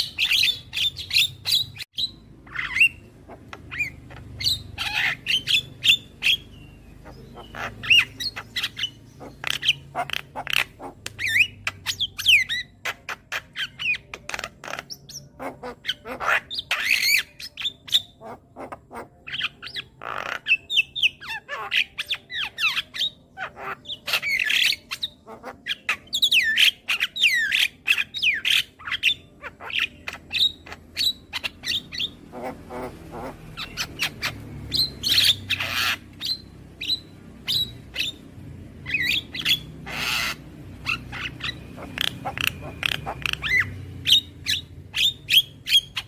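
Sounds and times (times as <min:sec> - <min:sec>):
myna squawking and chattering: 0:02.4 - 0:46.0.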